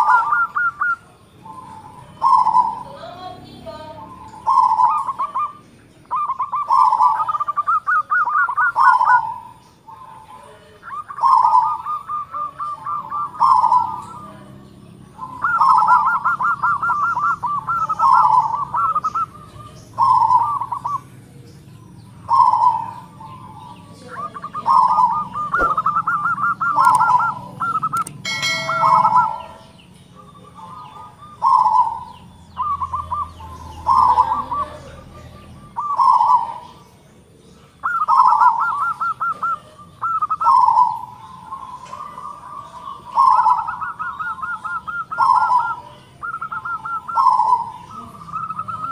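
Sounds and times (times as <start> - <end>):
dove trilling and cooing: 0.0 - 48.9.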